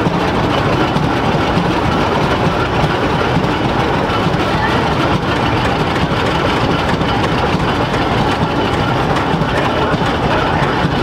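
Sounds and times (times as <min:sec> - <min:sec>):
steam engine clattering: 0:00.0 - 0:11.0.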